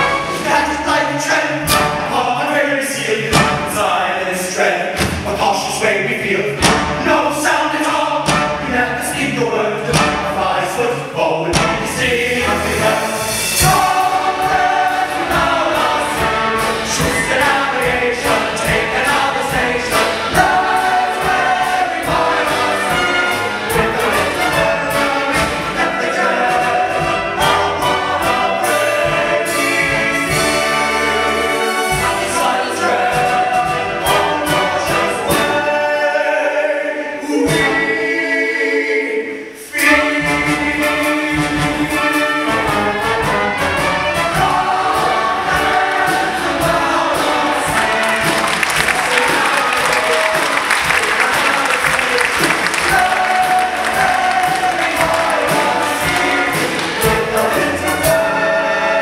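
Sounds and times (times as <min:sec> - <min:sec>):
orchestra playing: 0:00.0 - 0:38.4, 0:39.4 - 0:59.0
chorus singing: 0:00.0 - 0:59.0.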